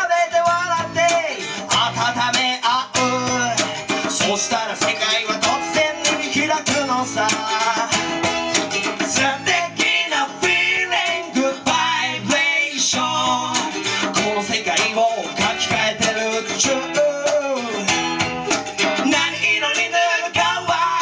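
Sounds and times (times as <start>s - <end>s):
men singing: 0.0s - 18.2s, 18.9s - 21.0s
acoustic guitar strumming: 0.0s - 21.0s
mandolin strumming: 0.0s - 21.0s.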